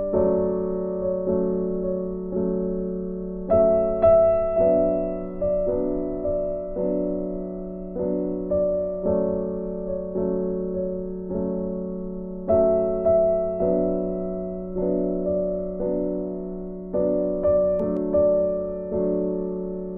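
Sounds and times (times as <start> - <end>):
slow gentle piano music: 0.0 - 19.9.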